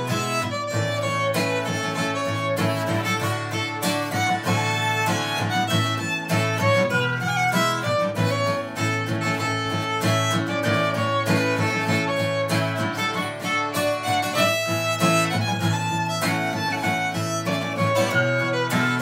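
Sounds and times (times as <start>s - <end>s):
fiddle tune on violin: 0.0s - 19.0s
strummed acoustic guitar chords: 0.0s - 19.0s.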